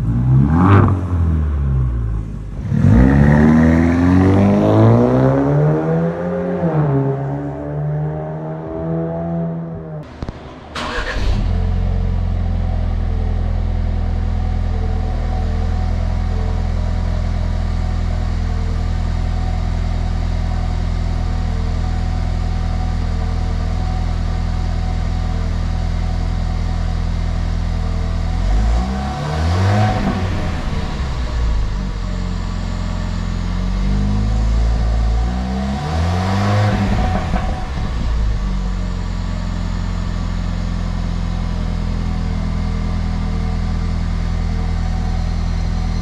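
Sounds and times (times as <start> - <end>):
car engine exhaust: 0.0 - 46.0.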